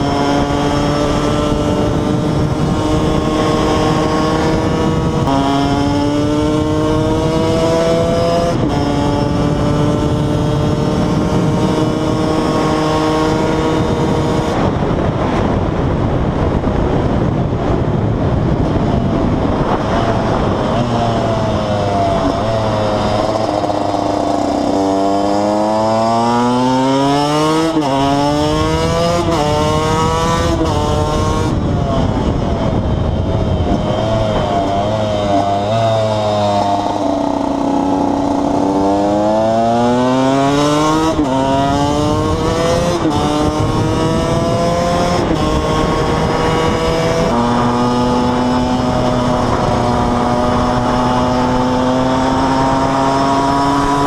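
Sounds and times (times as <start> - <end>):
two-stroke motorcycle engine accelerating: 0.0 - 54.0.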